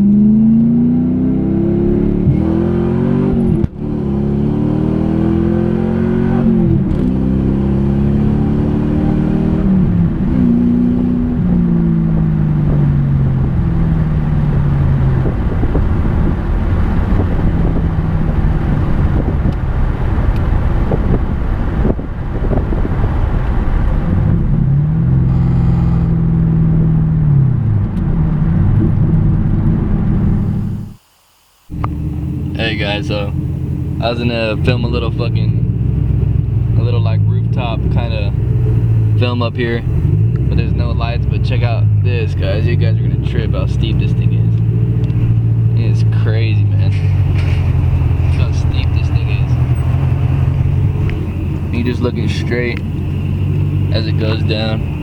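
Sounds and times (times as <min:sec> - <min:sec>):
car engine accelerating through gears: 0:00.0 - 0:31.0, 0:31.7 - 0:55.0.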